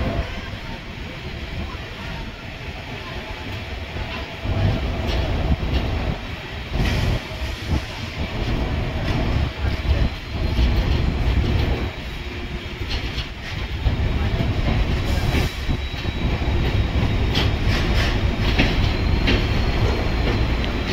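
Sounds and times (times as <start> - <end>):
train wheels rumbling on rails: 0.0 - 20.9
wheels clacking over rail joints: 3.5 - 20.9.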